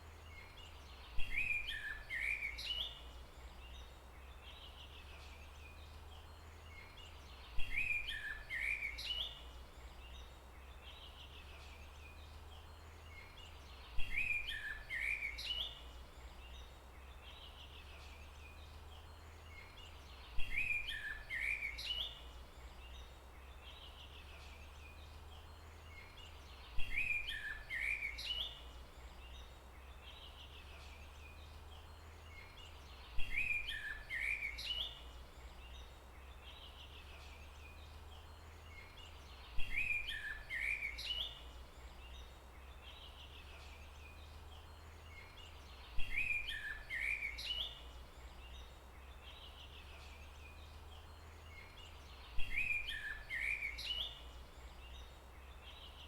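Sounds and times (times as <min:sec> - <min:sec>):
faint background hiss: 0:00.0 - 0:56.0
songbird chirping phrase: 0:00.0 - 0:56.0.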